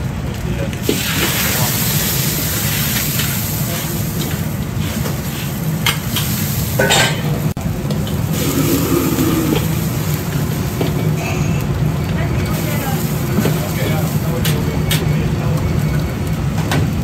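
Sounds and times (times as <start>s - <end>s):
gas burner roaring: 0.0s - 17.0s
food sizzling in a wok: 0.8s - 16.2s.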